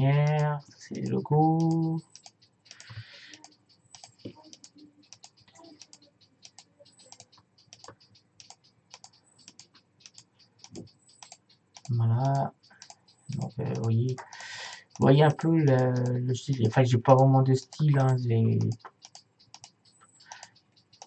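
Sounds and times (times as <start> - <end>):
keyboard typing: 0.0 - 21.0.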